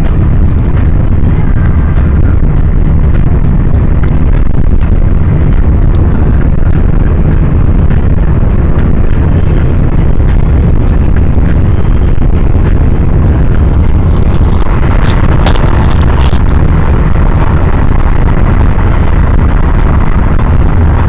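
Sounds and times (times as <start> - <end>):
rail vehicle rumbling on track: 0.0 - 21.0
wind buffeting microphone: 0.0 - 21.0.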